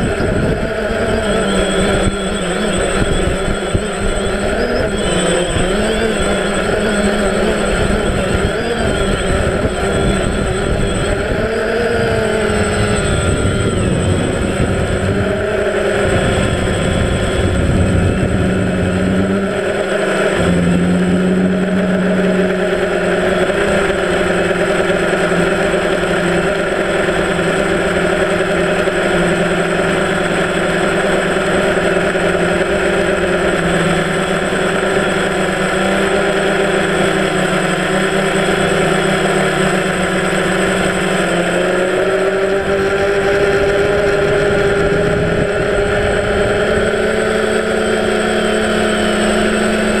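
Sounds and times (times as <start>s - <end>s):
drone motors buzzing whine: 0.0s - 50.0s.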